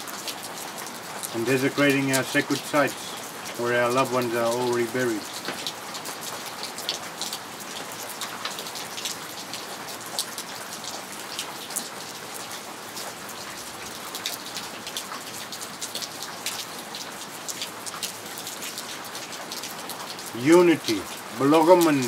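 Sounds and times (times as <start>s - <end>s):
raindrops striking sharply: 0.0s - 22.0s
steady rainfall: 0.0s - 22.0s.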